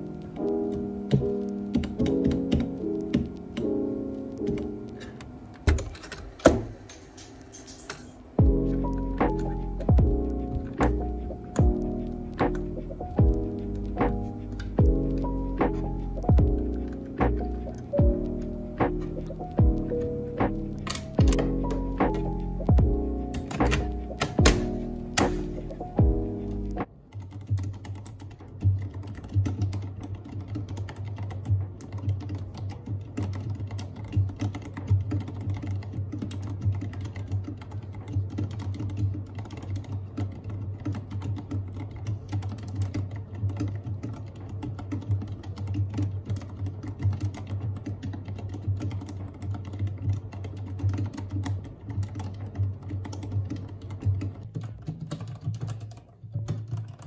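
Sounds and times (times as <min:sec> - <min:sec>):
mechanical keyboard typing: 0:00.0 - 0:07.2, 0:08.4 - 0:57.0.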